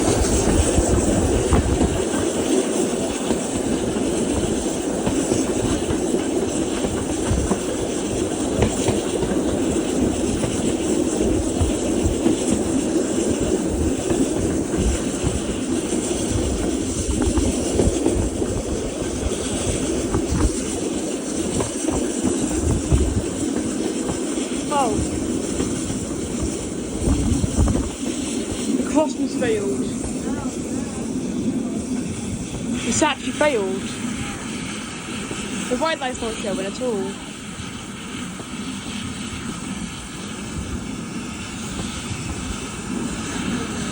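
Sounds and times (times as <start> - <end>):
clickety-clack over track: 0.0 - 43.9
train wheels rumbling on rails: 0.0 - 43.9.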